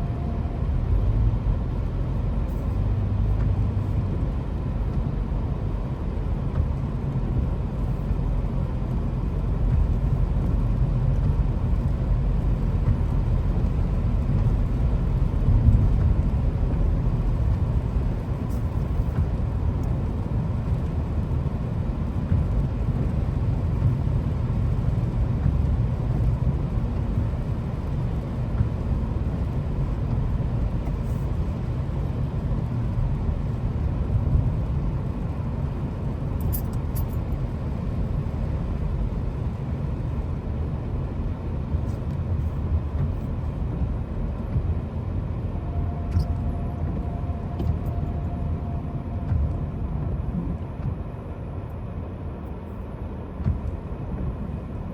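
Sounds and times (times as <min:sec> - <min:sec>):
car driving low rumble: 0:00.0 - 0:54.9.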